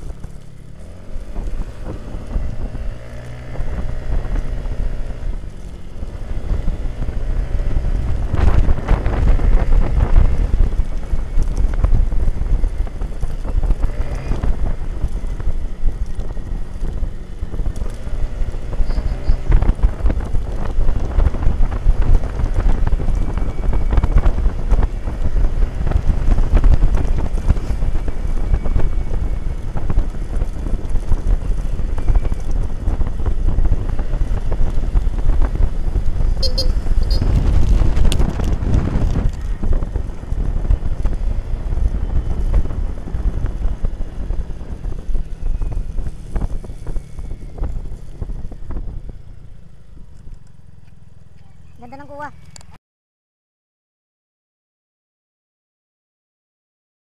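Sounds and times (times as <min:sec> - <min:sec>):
wind rushing over microphone: 0:00.0 - 0:51.2
low engine and road rumble: 0:00.0 - 0:52.8.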